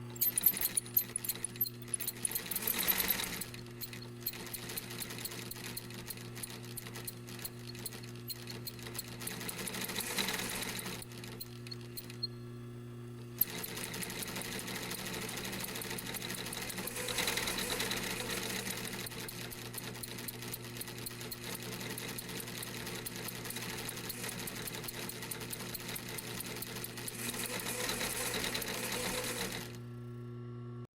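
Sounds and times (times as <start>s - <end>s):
sewing machine stitching: 0.0s - 12.3s, 13.3s - 29.8s
sewing machine motor hum: 0.0s - 30.9s.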